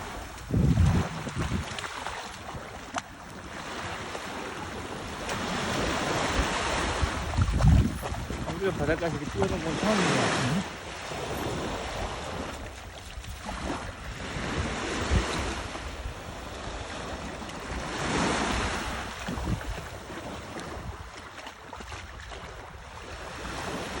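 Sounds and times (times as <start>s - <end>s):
sea waves washing onto shore: 0.0s - 24.0s
wind buffeting microphone: 0.0s - 24.0s.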